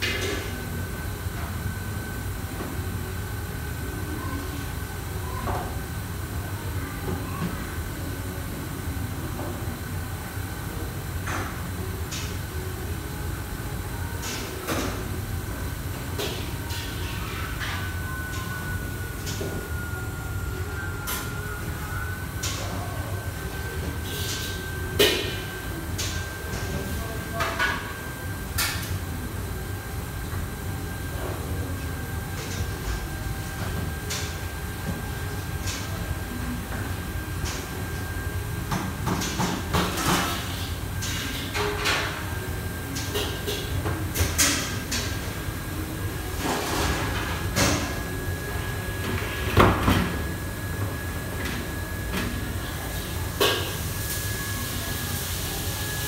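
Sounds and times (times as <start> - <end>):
ventilation rumble: 0.0 - 49.5
thin steady whine: 0.0 - 56.0.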